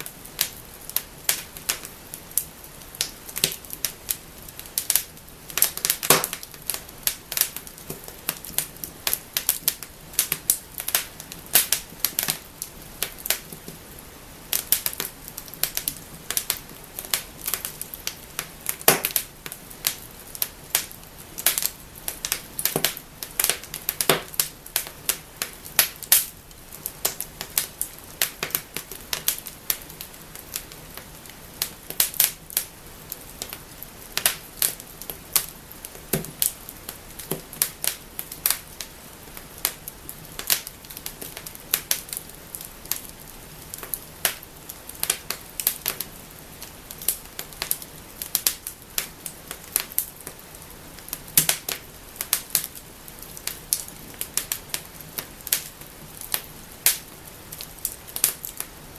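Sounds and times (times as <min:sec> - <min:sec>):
wood fire crackling: 0:00.0 - 0:58.9
fire pops: 0:00.1 - 0:13.9, 0:14.5 - 0:43.1, 0:43.7 - 0:50.4, 0:51.0 - 0:58.8.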